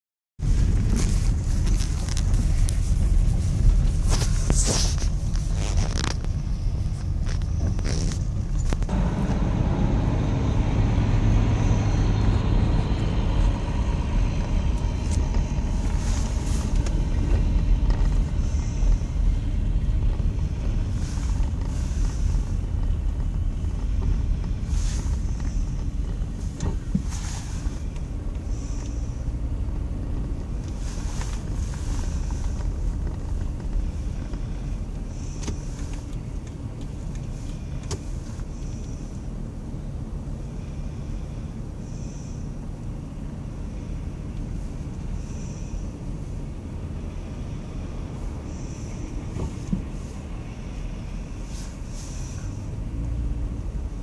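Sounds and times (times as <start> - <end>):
car cabin road rumble: 0.4 - 54.0.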